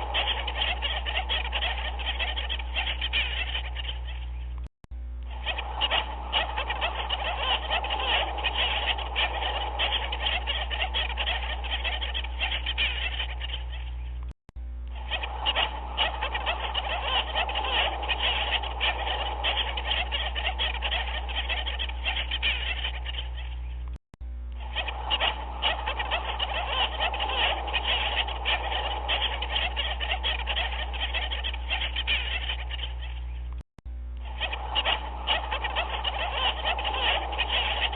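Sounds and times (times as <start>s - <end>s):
chorus of animal calls: 0.0s - 4.6s, 5.3s - 14.2s, 14.9s - 23.9s, 24.6s - 33.6s, 34.2s - 37.9s
steady low hum: 0.0s - 37.9s.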